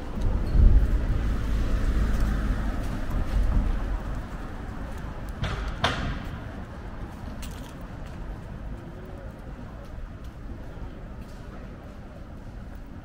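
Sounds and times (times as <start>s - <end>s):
traffic rumble: 0.0s - 13.0s
wind: 0.0s - 13.0s.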